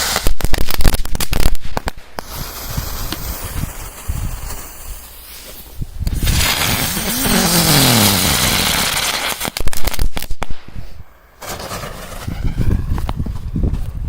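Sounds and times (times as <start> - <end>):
firework hissing: 0.0 - 13.6
firework cracks and bangs: 0.0 - 14.0.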